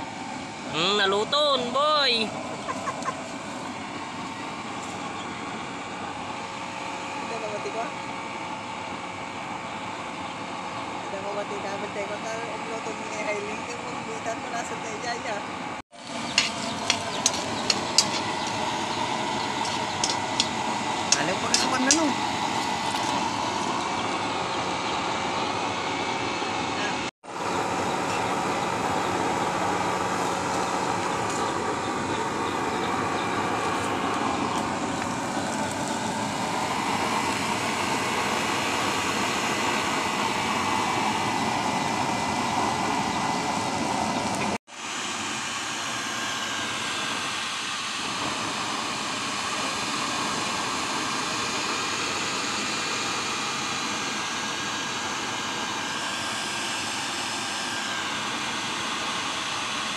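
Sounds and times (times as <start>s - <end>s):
faint motor whine: 0.0s - 59.9s.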